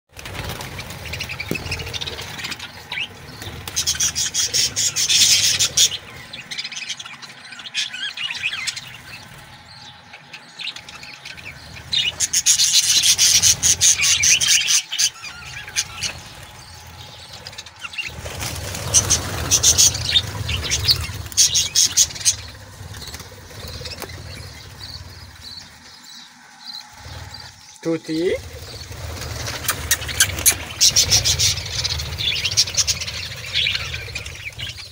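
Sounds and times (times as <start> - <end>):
parrots chirping and chattering: 0.1 - 34.9.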